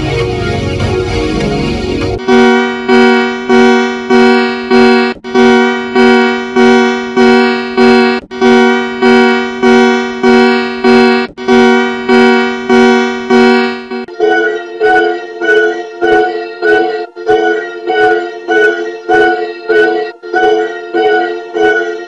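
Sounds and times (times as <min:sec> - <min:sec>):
buzzy electronic alarm beeps: 0:02.2 - 0:22.0.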